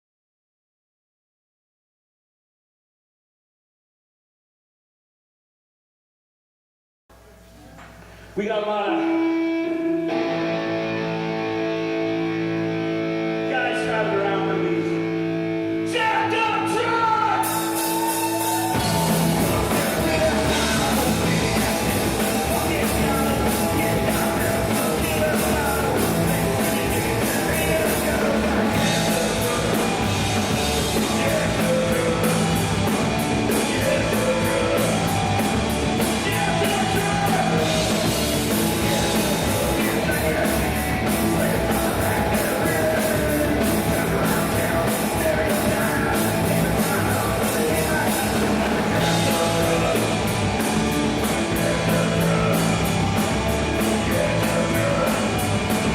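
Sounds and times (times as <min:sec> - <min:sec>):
punk rock band playing: 0:09.3 - 0:55.9.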